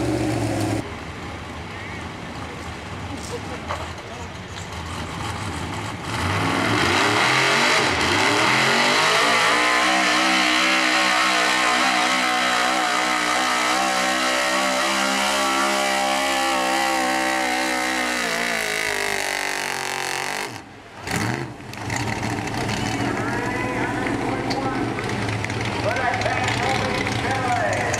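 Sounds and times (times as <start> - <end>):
truck engine revving: 0.0 - 0.9, 4.7 - 27.9.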